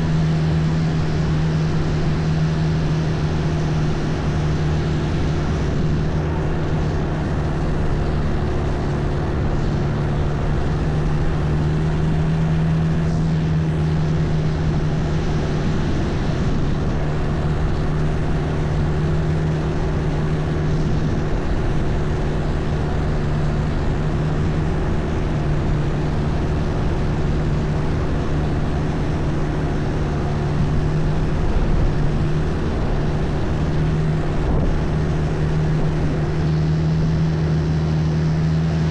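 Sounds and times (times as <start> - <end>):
boat engine droning: 0.0 - 38.9
water rushing: 0.0 - 38.9
wind: 0.0 - 38.9.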